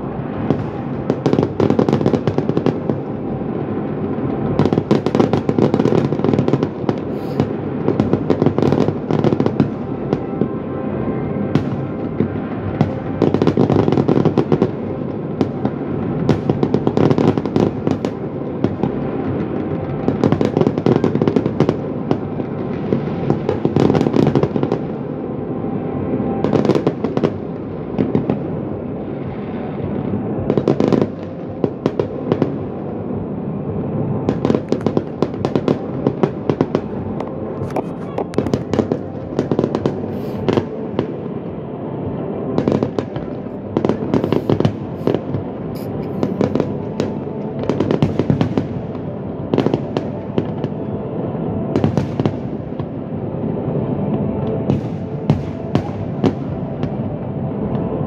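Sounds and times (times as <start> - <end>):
fireworks bangs and crackling: 0.0 - 58.0
rumble of explosions: 0.0 - 58.0.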